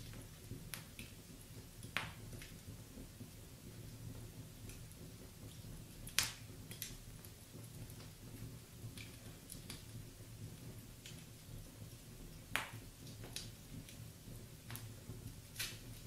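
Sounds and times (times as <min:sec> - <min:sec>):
sharp fire pops: 0:00.0 - 0:16.0
wood fire crackling: 0:00.0 - 0:16.0.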